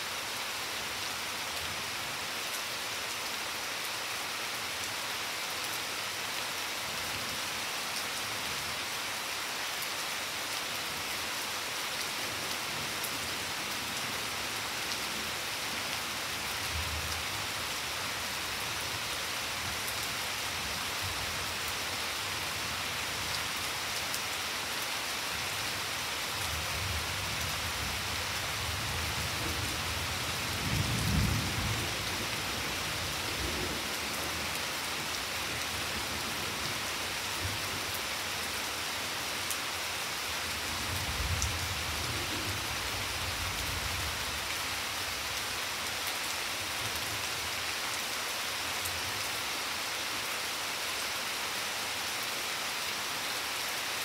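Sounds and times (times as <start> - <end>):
rain falling on foliage and stone: 0.0 - 54.0.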